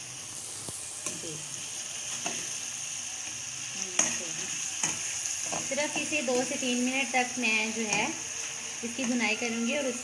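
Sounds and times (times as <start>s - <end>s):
masala sizzling in a pan: 0.0s - 10.0s.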